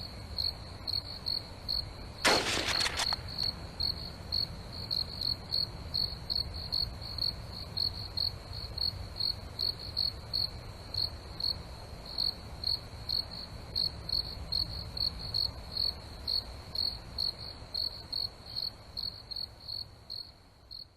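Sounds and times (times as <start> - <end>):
cricket chirping: 0.0 - 20.9.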